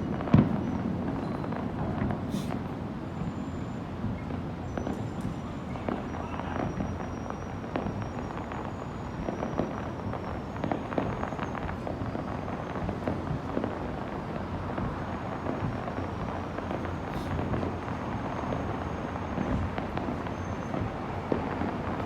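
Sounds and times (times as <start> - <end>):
distant fireworks popping: 0.0 - 22.0.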